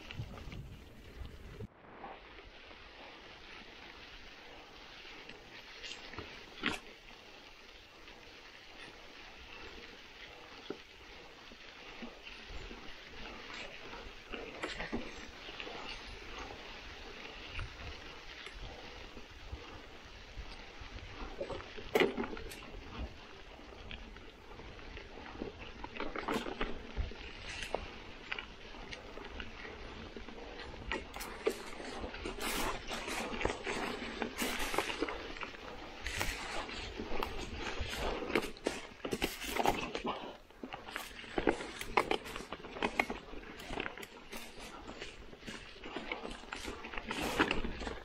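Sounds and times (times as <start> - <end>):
bike tyres rolling over leaves: 0.0 - 48.0.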